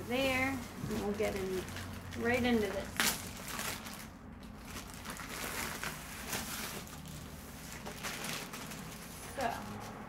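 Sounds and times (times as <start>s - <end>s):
plastic sleeve crinkling: 0.2s - 10.0s.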